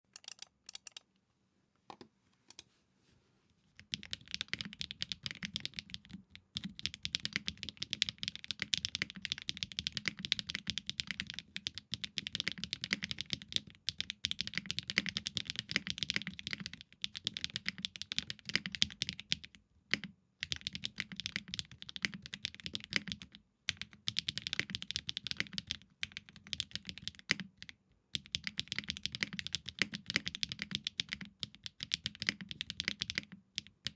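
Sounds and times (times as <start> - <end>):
fast typing on mechanical keyboard: 3.8 - 33.9.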